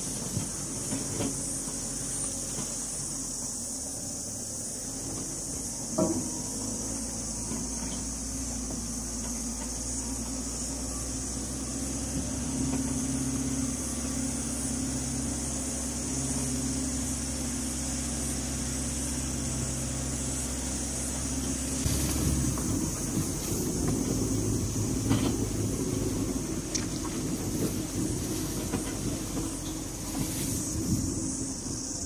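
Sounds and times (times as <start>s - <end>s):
high insect drone: 0.0s - 32.0s
truck engine running at low revs: 0.0s - 32.0s.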